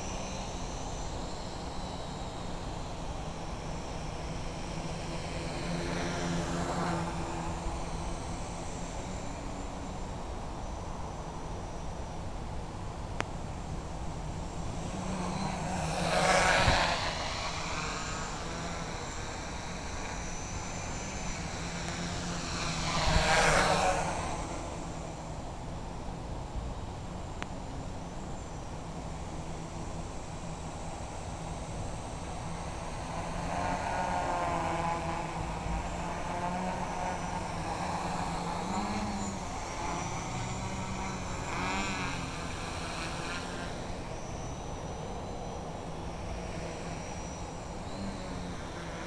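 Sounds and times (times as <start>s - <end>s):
quadcopter propellers whirring: 0.0s - 49.0s.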